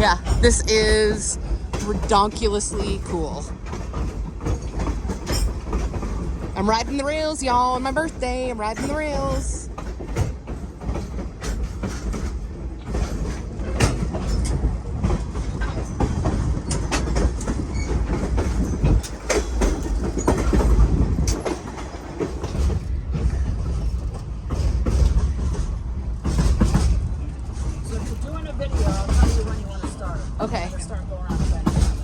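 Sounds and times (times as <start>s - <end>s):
train rumbling: 0.0s - 32.0s
wheels clicking on rails: 0.0s - 32.0s.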